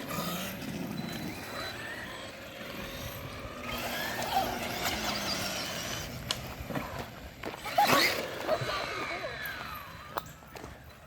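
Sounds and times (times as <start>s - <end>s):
electric toy car motor whining: 0.0s - 11.0s.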